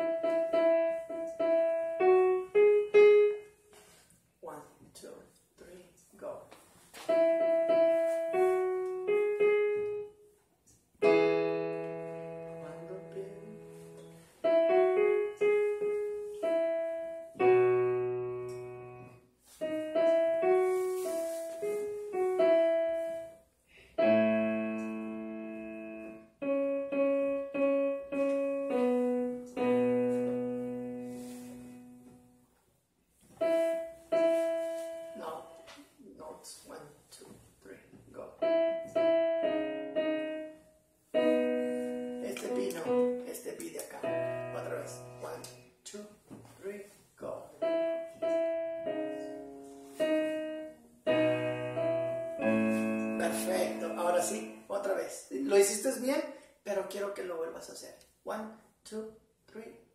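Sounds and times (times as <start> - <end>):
digital piano played slowly: 0.0 - 4.0, 7.0 - 36.9, 37.6 - 56.3.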